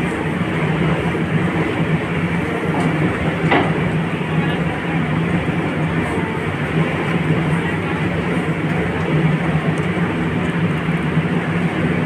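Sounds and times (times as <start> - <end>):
machinery engine hum: 0.0 - 12.0.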